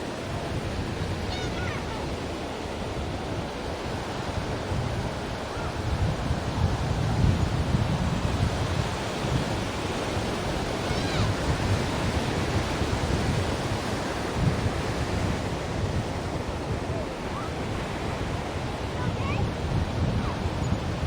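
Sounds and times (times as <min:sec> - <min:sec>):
ocean surf washing ashore: 0:00.0 - 0:21.0.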